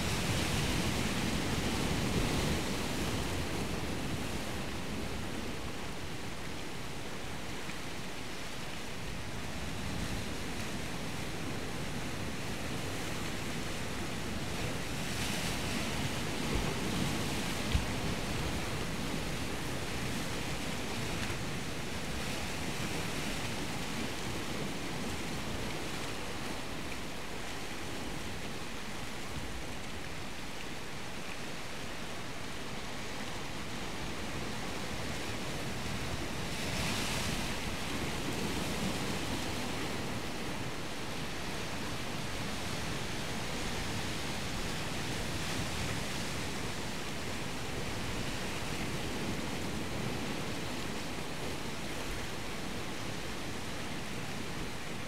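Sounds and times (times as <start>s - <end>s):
waves washing in: 0.0s - 55.0s.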